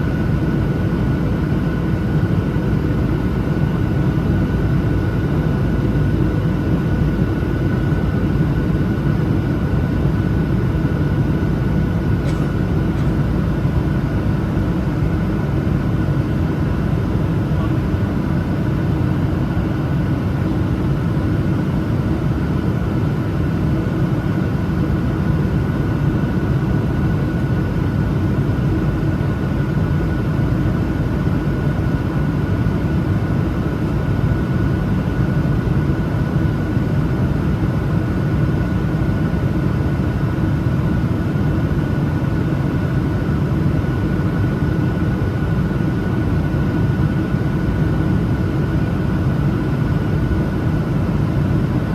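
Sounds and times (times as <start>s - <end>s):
jet engines droning: 0.0s - 51.9s.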